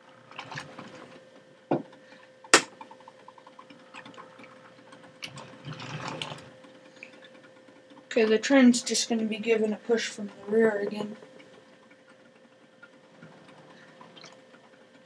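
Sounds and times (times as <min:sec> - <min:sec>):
small clicks and ticks: 0:00.1 - 0:15.0
model train motor hum: 0:02.0 - 0:15.0.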